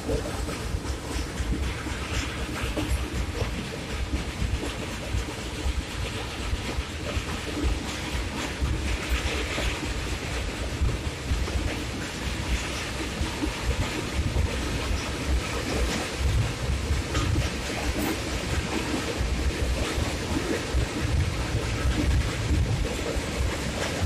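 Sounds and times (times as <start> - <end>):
passenger train on track: 0.0 - 24.0
wind buffeting microphone: 0.0 - 24.0.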